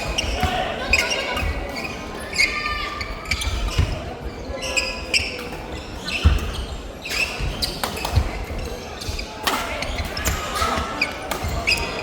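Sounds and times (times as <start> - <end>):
shoes squeaking on court: 0.0 - 12.0.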